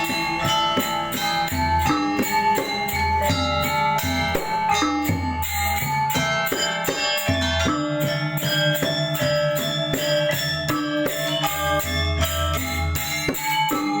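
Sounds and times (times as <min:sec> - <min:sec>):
metallophones striking fast patterns: 0:00.0 - 0:14.0.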